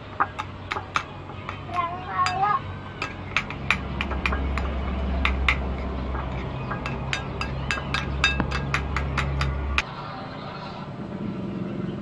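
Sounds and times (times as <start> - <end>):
spoon clinking against ceramic bowl: 0.2 - 9.8.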